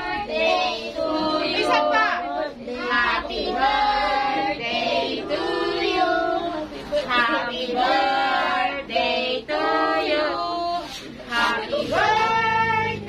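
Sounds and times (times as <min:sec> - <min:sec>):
women and children singing: 0:00.0 - 0:13.0.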